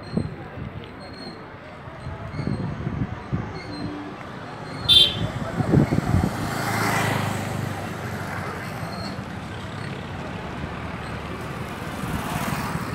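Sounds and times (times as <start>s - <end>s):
low engine hum with road noise: 0.0s - 12.9s.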